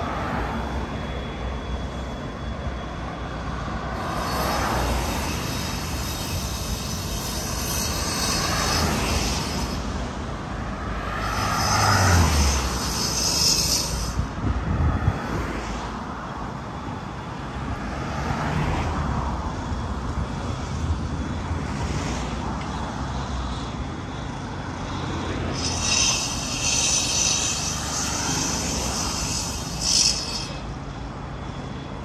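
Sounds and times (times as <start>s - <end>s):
low traffic rumble: 0.0s - 32.0s
passing traffic rush: 0.0s - 32.0s.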